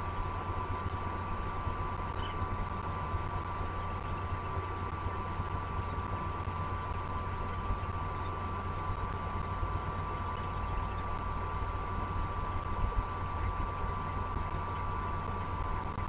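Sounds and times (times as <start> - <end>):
faint steady hum: 0.0 - 16.0
steady low drone: 0.0 - 16.0.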